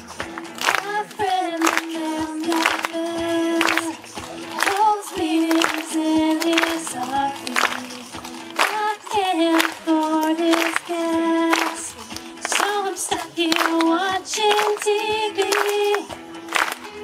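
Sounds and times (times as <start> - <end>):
young woman singing: 0.6 - 16.2.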